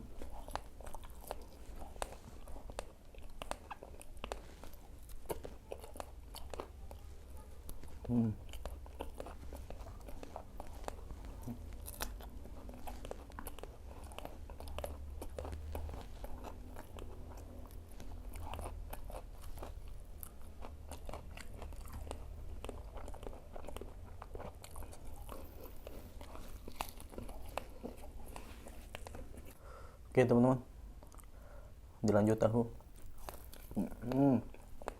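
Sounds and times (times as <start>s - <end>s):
person chewing crunchy food: 0.0s - 29.8s, 32.8s - 34.9s.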